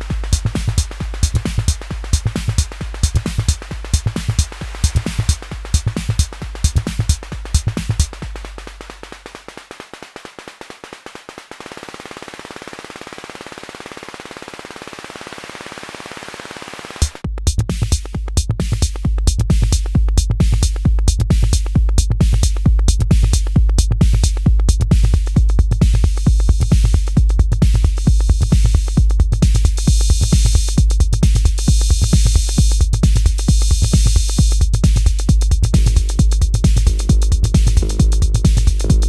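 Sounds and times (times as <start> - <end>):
drum machine beat: 0.0 - 12.0, 17.0 - 39.0.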